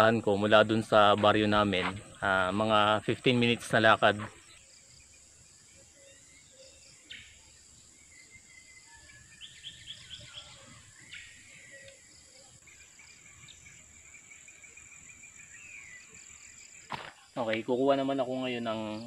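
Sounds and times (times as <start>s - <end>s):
birds calling: 0.0s - 19.0s
insects droning: 0.0s - 19.0s
bird chirps: 0.3s - 19.0s.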